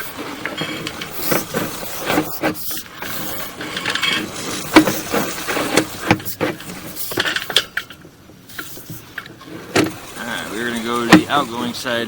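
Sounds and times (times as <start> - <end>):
push rod and reel knocking: 0.0 - 11.7.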